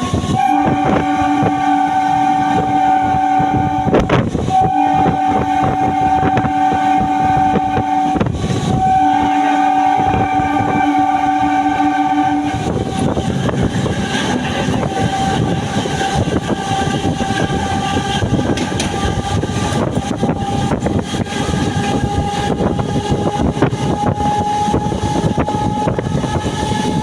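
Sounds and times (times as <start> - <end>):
moving train rumble and clatter: 0.0 - 27.0
train horn blasts: 0.0 - 27.0.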